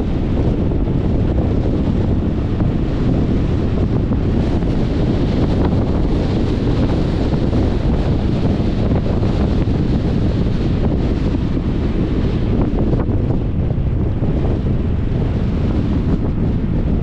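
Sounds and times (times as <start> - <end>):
car road noise and wind rush: 0.0 - 17.0
wind buffeting on microphone: 0.0 - 17.0.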